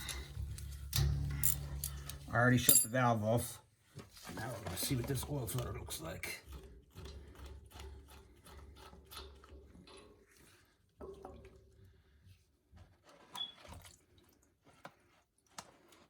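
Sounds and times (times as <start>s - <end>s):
oil dripping: 0.0s - 2.4s, 4.7s - 15.2s.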